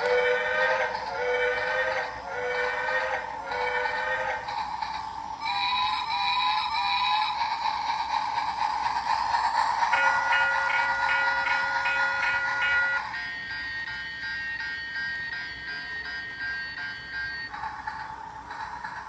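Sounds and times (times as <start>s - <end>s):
toy train electric whir: 0.0s - 19.0s.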